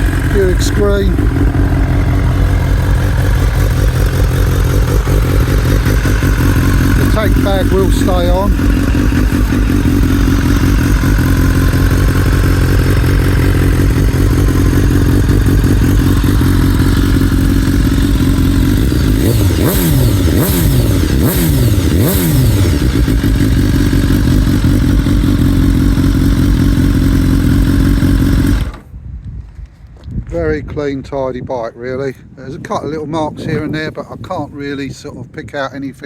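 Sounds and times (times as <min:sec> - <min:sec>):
motorcycle engine revs: 0:00.0 - 0:28.9
motorcycle engine idling: 0:00.0 - 0:29.0.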